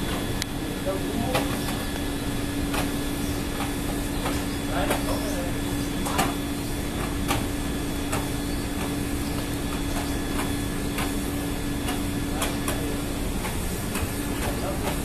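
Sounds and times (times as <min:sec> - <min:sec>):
ship machinery humming: 0:00.0 - 0:15.0.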